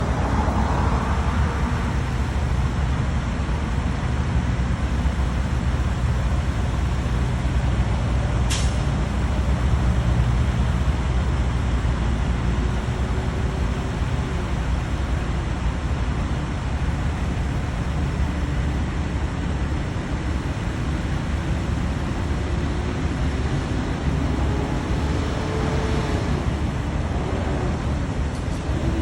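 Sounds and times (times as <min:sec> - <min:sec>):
road vehicles rumbling: 0:00.0 - 0:29.0.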